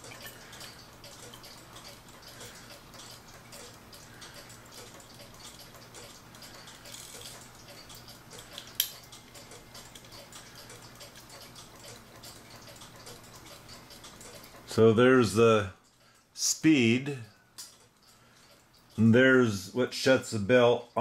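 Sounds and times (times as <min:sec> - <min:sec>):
clock ticking: 0:00.0 - 0:21.0.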